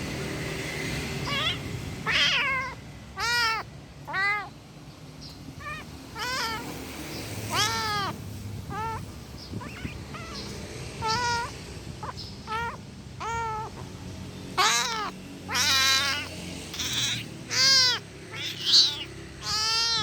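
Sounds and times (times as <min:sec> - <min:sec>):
angry kitten meowing: 0:01.2 - 0:04.6, 0:05.5 - 0:13.9, 0:14.5 - 0:20.0.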